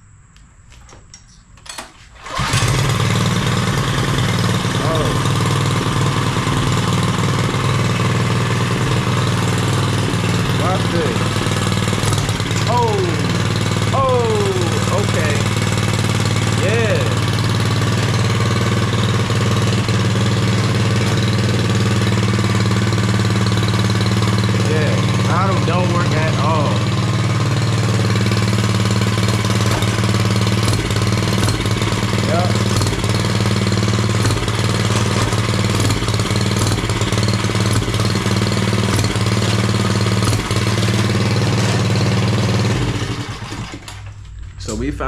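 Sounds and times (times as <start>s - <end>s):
small engine idling: 2.2s - 44.8s.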